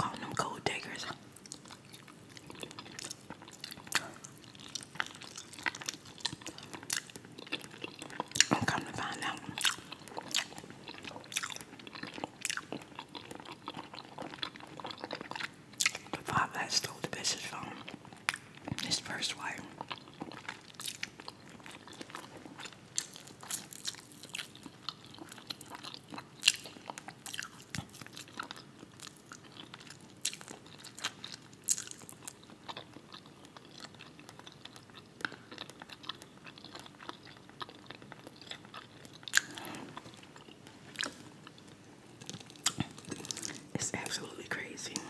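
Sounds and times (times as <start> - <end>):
chewing with crunches: 0.0 - 45.0.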